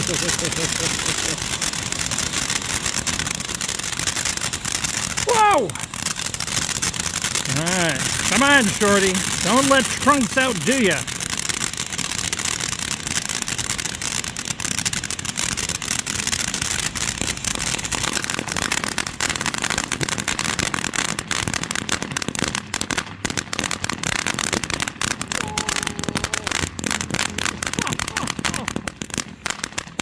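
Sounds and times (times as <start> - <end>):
firework fountain hissing and crackling: 0.0 - 30.0.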